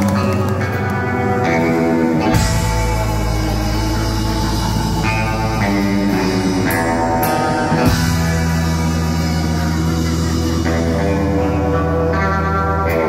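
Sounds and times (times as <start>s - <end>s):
drum kit: 0.0s - 13.0s
electric guitar: 0.0s - 13.0s
heavy low bass line: 0.0s - 13.0s.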